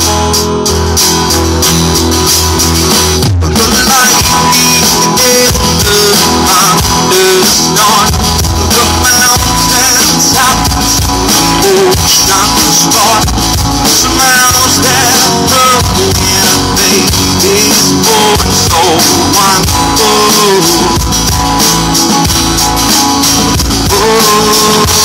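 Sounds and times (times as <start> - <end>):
amplified guitars: 0.0 - 25.0
drum kit: 0.0 - 25.0.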